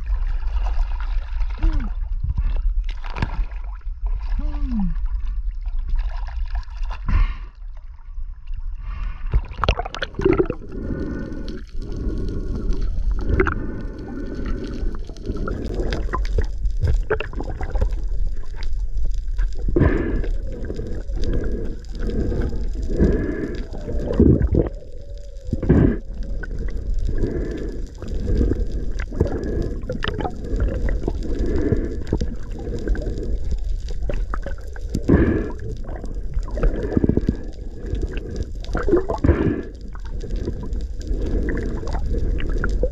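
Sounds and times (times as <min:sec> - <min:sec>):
bumps and rushes of water: 0:00.0 - 0:07.9, 0:08.8 - 0:42.9
muffled sea water sloshing: 0:00.0 - 0:42.9.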